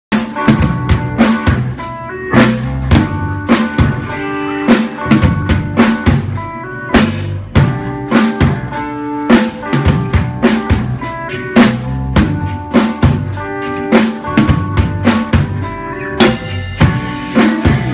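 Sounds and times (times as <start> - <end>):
drum kit hits: 0.1 - 17.9
sustained pitched notes: 1.5 - 8.8, 9.5 - 17.9.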